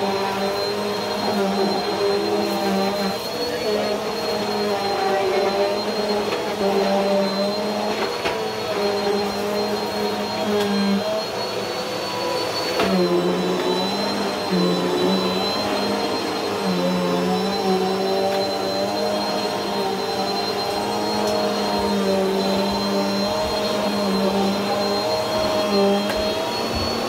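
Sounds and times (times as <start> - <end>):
upright vacuum cleaner running: 0.0 - 27.0.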